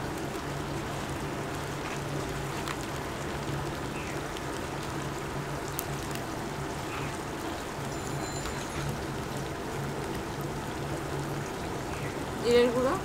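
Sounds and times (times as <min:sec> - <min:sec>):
oil sizzling and bubbling: 0:00.0 - 0:13.0.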